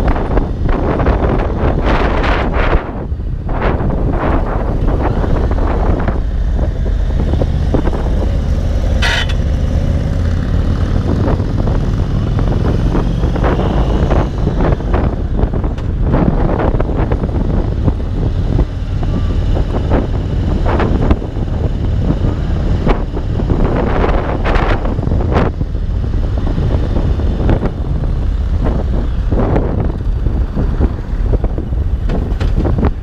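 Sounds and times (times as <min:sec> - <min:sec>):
motorcycle engine cruising: 0:00.0 - 0:33.0
wind buffeting microphone: 0:00.0 - 0:33.0.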